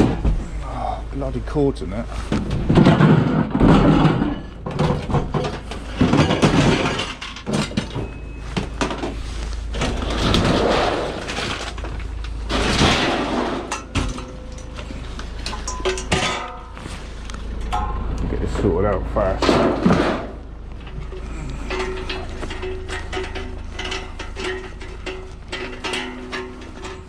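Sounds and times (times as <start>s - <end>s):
steady low hum: 0.0s - 27.0s
metal scrap clattering and scraping: 2.0s - 27.0s.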